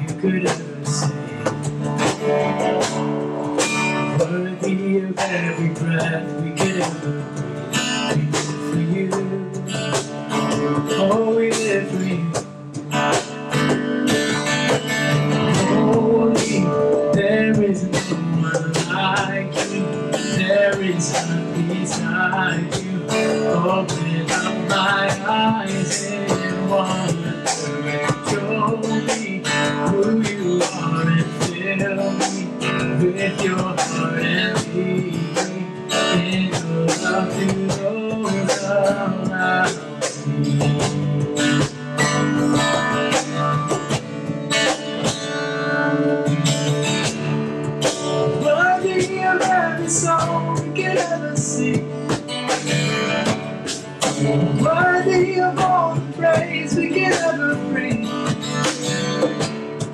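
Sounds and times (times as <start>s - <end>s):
man singing: 0.0s - 2.9s, 3.5s - 13.8s, 14.6s - 59.9s
acoustic guitar strumming: 0.0s - 59.9s
cajon beat: 0.0s - 59.9s.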